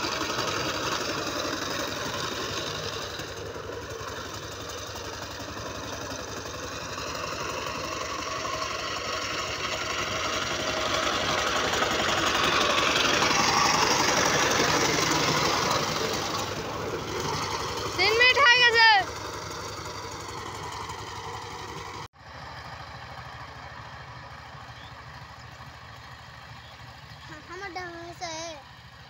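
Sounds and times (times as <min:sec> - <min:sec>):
diesel tiller engine chugging: 0:00.0 - 0:29.0.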